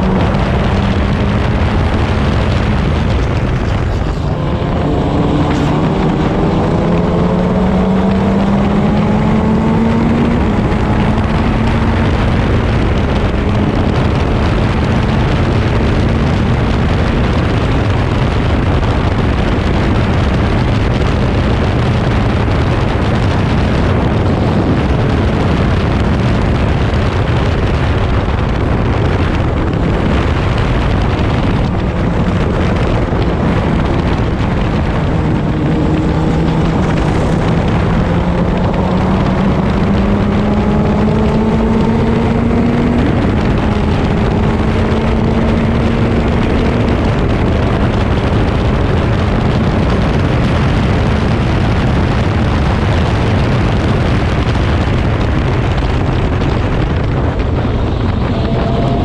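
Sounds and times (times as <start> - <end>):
race car engine running: 0.0 - 59.0
wind rush on microphone: 0.0 - 59.0.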